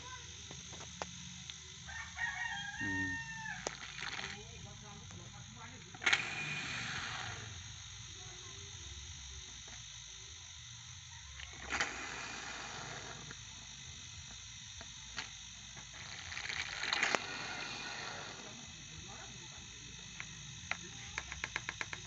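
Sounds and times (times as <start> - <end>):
compressor humming: 0.0 - 22.0.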